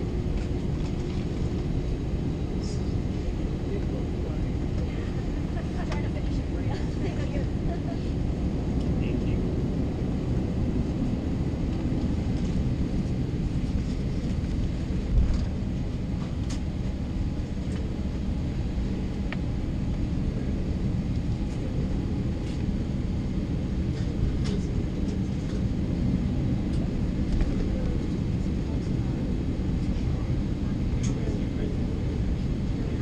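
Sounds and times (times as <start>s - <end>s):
aircraft cabin engine rumble: 0.0s - 33.0s.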